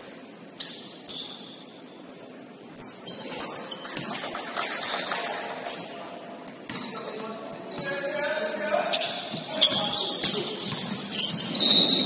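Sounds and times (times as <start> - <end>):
sneaker squeaks: 0.0 - 5.1, 6.5 - 12.0.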